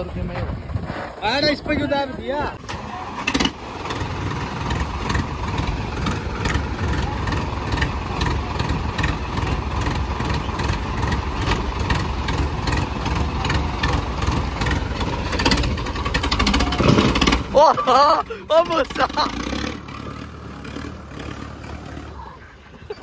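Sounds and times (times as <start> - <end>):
tractor diesel engine pulsing: 0.0 - 23.0.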